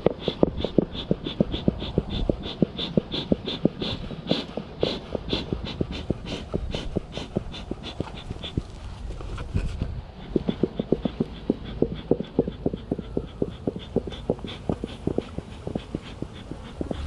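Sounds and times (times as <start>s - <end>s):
bellows puffing: 0.0s - 17.0s.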